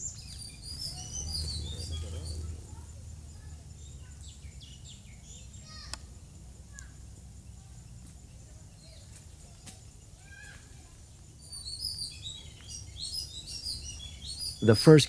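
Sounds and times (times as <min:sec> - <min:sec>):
birds chirping and calling: 0:00.0 - 0:15.0
steady low background noise: 0:00.0 - 0:15.0.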